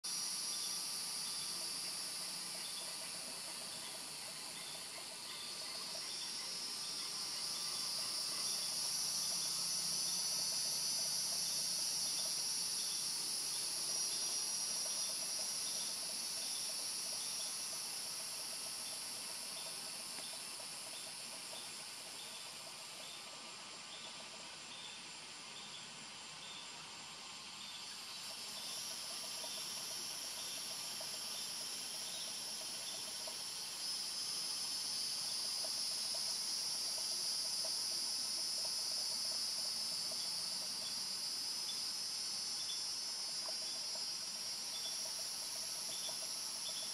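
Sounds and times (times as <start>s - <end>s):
insects chorus hissing: 0.0s - 46.9s.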